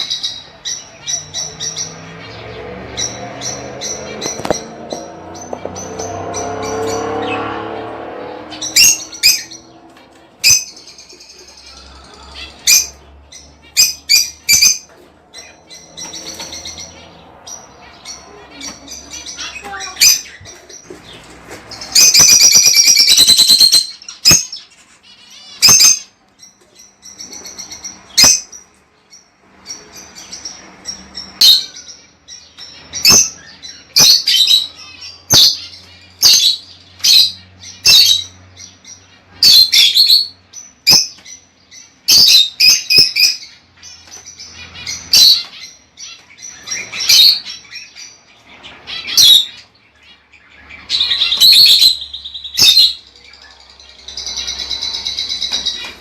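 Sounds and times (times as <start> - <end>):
birds chirping and shrieking: 0.0 - 56.0.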